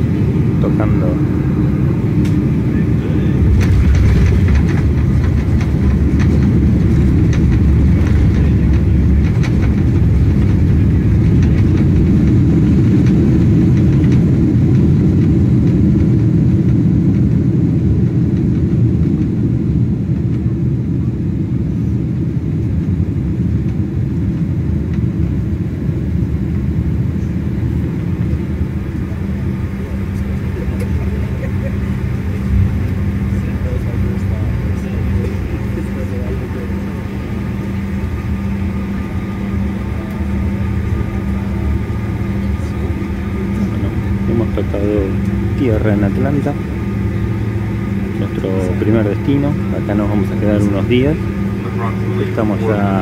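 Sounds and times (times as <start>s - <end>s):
jet engines and wheels rumbling: 0.0s - 53.0s.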